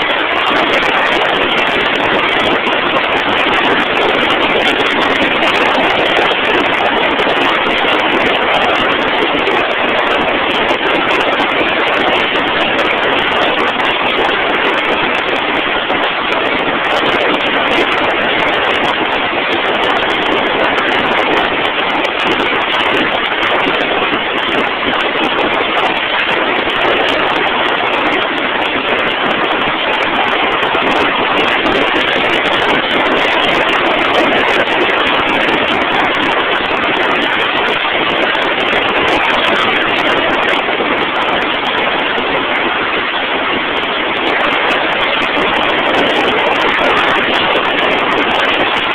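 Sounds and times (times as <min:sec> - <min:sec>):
drill rig machinery running: 0:00.0 - 0:48.9.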